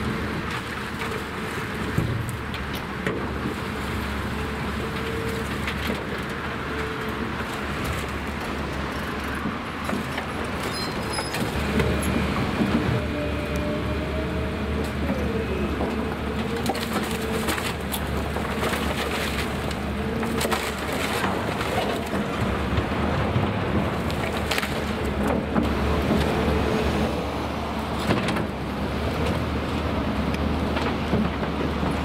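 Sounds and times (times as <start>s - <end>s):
excavator diesel engines: 0.0s - 32.0s
rubble and timber crunching: 0.0s - 32.0s.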